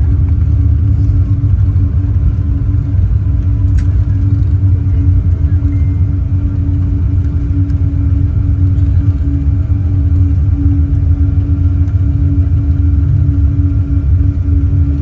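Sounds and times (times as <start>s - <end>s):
aircraft engines and airflow rumble: 0.0s - 15.0s
cabin hum: 0.0s - 15.0s.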